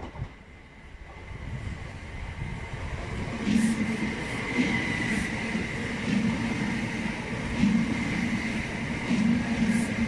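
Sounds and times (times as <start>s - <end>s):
electric train running past: 0.0s - 10.0s.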